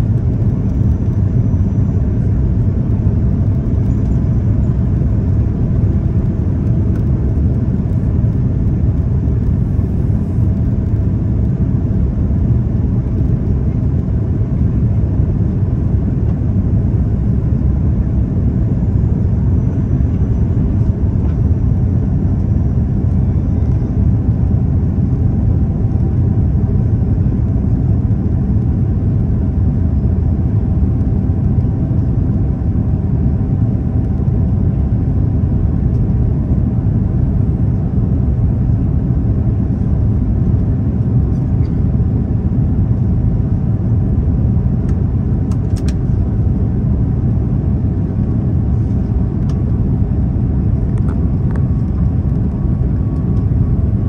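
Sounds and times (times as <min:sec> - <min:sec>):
faint steady hum: 0:00.0 - 0:54.0
jet engine cabin rumble: 0:00.0 - 0:54.0.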